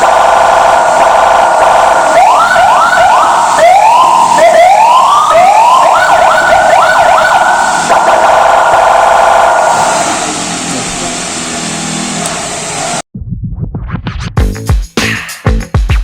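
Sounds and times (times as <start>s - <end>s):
electronic siren sweeping: 0.0s - 13.0s.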